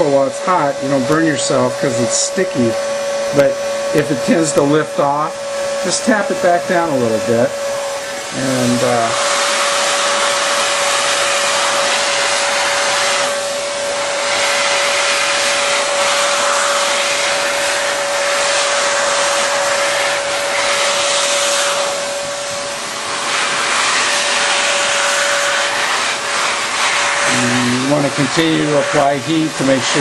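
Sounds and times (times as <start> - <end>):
fan motor whine: 0.0 - 30.0
heat gun air hissing: 0.0 - 30.0.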